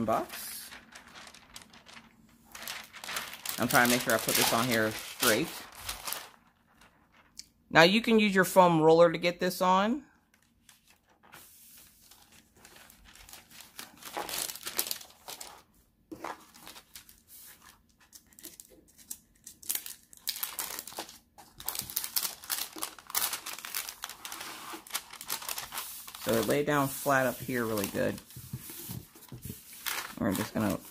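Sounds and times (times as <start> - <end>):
paper crinkling and rustling: 0.0 - 7.4, 10.2 - 30.9.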